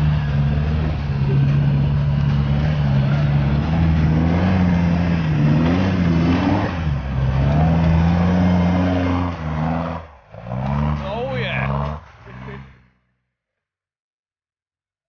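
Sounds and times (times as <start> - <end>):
tyres spinning in dirt: 0.0 - 12.8
engine revving under load: 0.0 - 13.1.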